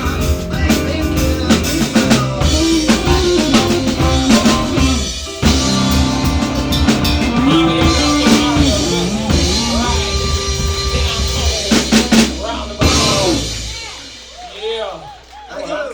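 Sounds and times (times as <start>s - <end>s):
hard drum hits: 0.0s - 14.4s
live rock band playing: 0.0s - 14.7s.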